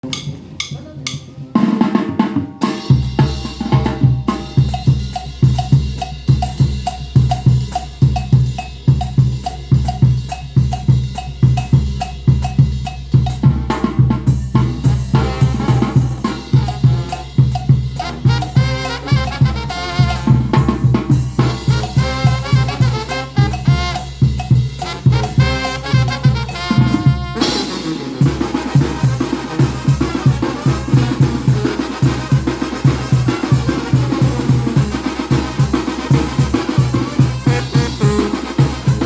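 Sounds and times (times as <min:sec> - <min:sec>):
brass band playing: 0:00.0 - 0:39.0
drums and cymbals: 0:00.0 - 0:39.0.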